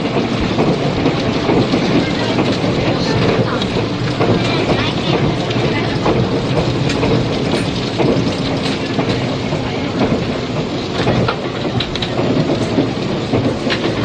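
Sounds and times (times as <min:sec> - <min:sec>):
train rumbling: 0:00.0 - 0:14.0
wheels clicking over rail joints: 0:00.0 - 0:14.0.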